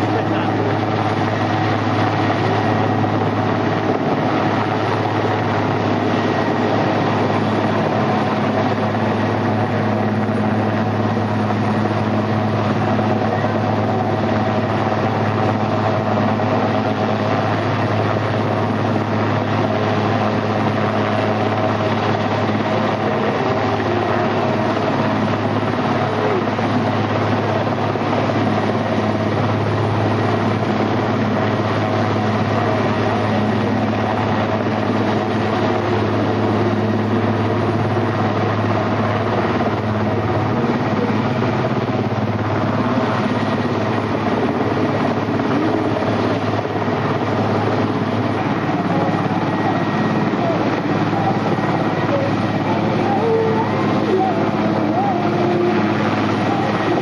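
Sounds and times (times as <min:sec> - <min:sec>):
helicopter hovering: 0:00.0 - 0:57.0.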